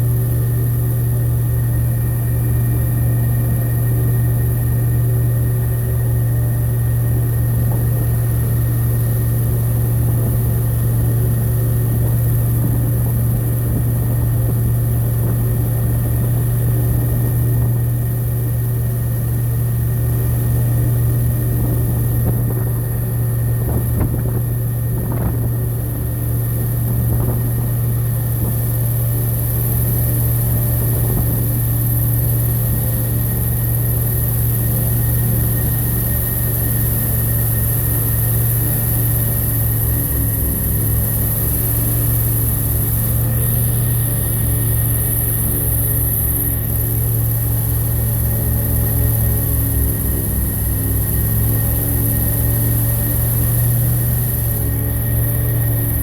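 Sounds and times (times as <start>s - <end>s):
airboat engine and propeller droning: 0.0s - 56.0s.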